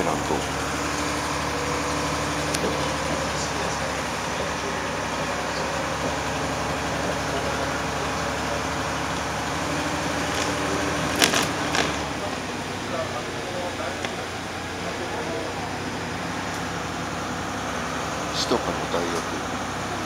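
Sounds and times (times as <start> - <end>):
engine hum: 0.0 - 20.0
road noise: 0.0 - 20.0.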